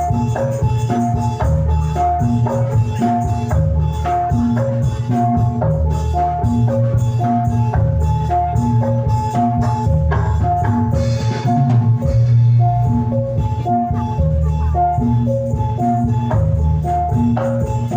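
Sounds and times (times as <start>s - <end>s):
gamelan music over sound system: 0.0s - 17.9s.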